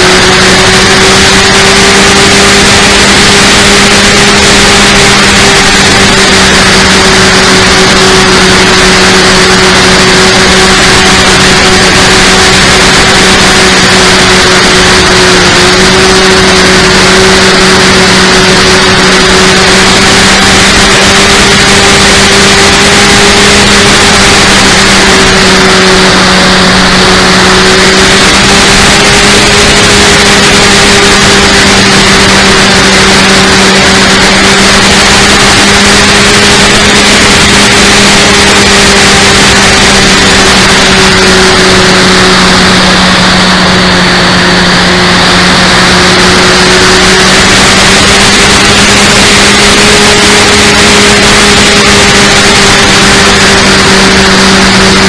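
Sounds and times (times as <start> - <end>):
air noise rushing: 0.0 - 55.0
electric motor and propeller droning: 0.0 - 55.0.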